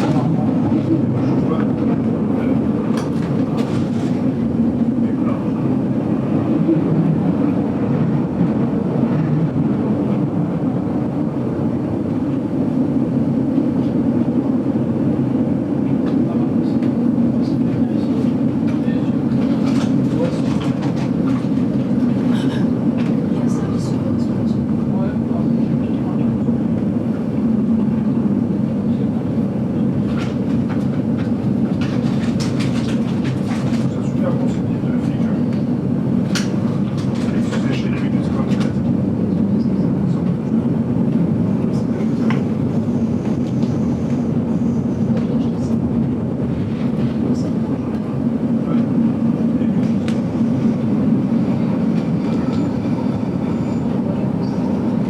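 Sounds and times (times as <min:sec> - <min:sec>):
train rumbling from inside carriage: 0:00.0 - 0:55.0.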